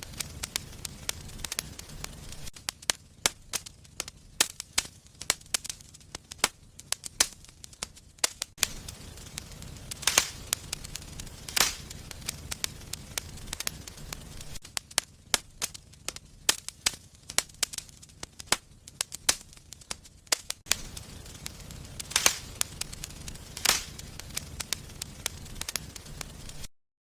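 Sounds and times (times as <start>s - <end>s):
wood fire crackling: 0.0s - 26.7s.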